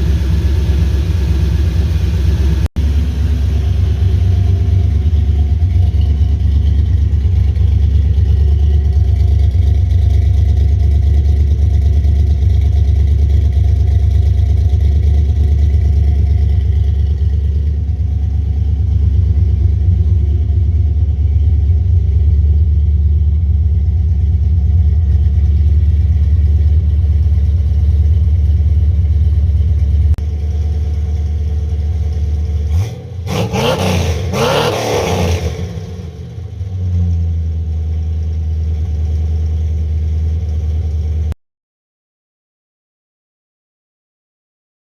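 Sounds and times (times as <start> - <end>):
car engine running: 0.0 - 41.4.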